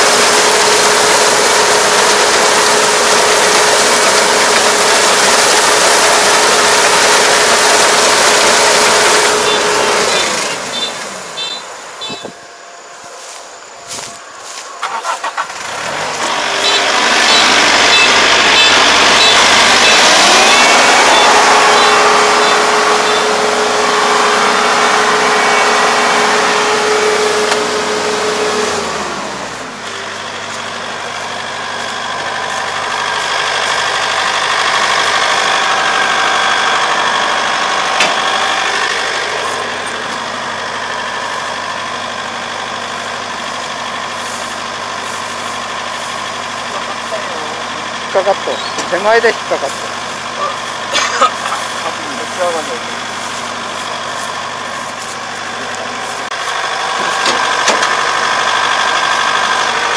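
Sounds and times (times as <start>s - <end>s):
combine harvester diesel engine: 0.0s - 59.9s
threshing machinery running: 0.0s - 59.9s.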